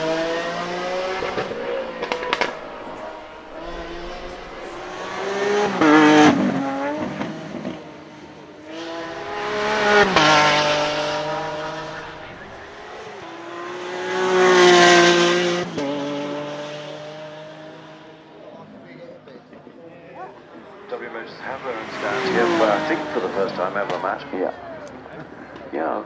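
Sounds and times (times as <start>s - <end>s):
sports car accelerating past: 0.0s - 18.4s, 20.4s - 25.1s.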